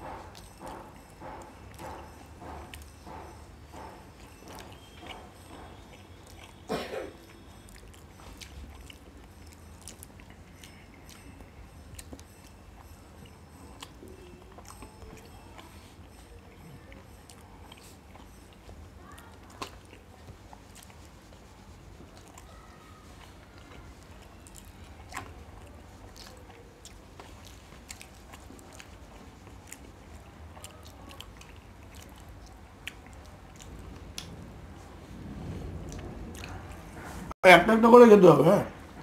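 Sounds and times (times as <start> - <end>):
people chewing and eating: 0.0 - 37.4.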